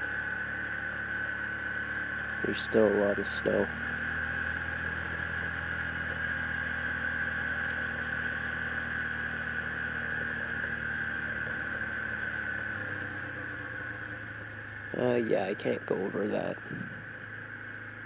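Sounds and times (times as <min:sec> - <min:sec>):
atv engine running on gravel: 0:00.0 - 0:18.0.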